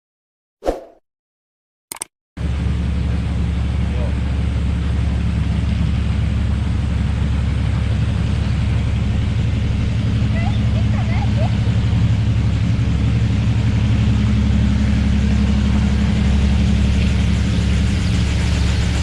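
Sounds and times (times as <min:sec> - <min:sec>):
locomotive low drone: 0:01.9 - 0:19.0.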